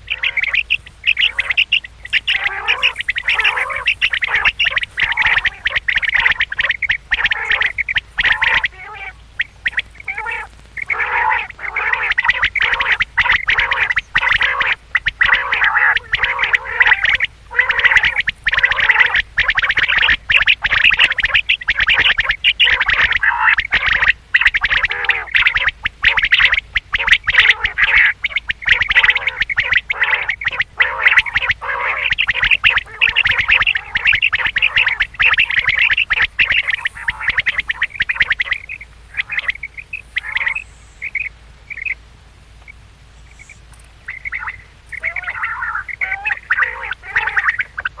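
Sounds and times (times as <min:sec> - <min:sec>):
quail calling: 0:00.0 - 0:48.0.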